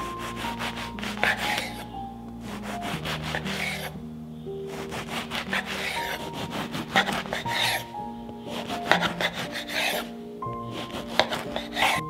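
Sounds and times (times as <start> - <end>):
soft background music: 0.0 - 12.0
bread knife sawing crusty loaf: 0.2 - 3.9, 4.7 - 7.9, 8.5 - 10.1, 10.7 - 12.0.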